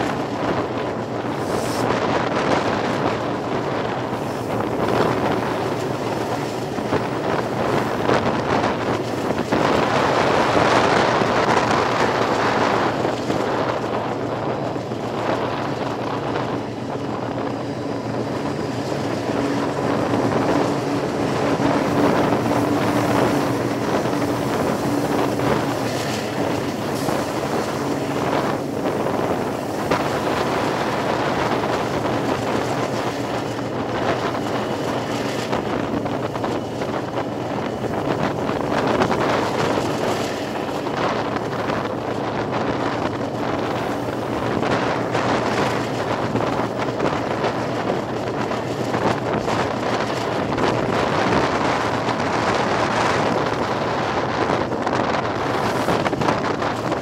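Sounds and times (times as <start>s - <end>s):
train rolling rumble: 0.0s - 57.0s
wind buffeting microphone: 0.0s - 57.0s.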